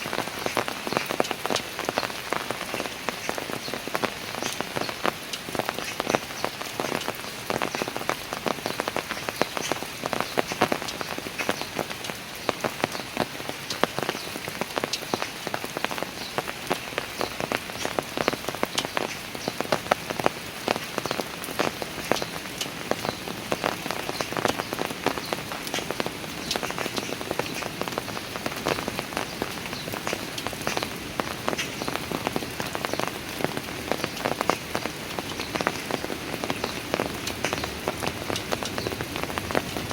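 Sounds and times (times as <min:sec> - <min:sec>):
raindrops ticking on hard surfaces: 0:00.0 - 0:39.9
steady rain hiss: 0:00.0 - 0:39.9.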